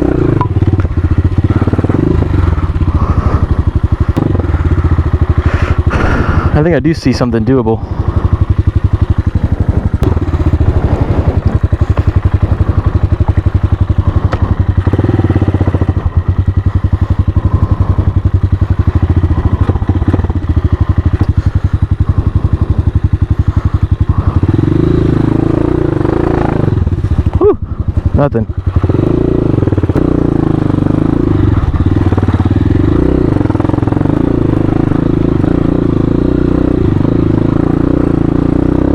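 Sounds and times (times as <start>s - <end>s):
engine knocks and clatter: 0.0s - 38.9s
motorcycle engine running: 0.0s - 38.9s.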